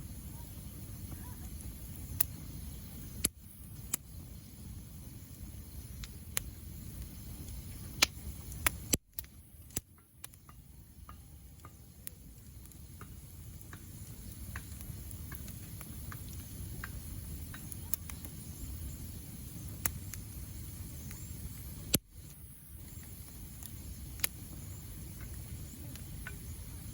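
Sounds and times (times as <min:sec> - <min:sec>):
bonfire burning rumble: 0:00.0 - 0:26.9
fire crackles and pops: 0:00.0 - 0:26.9.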